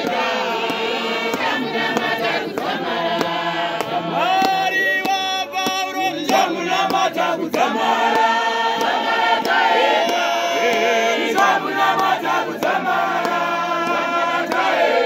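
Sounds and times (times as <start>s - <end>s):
claps keeping time: 0.0s - 15.0s
men singing in harmony: 0.0s - 15.0s.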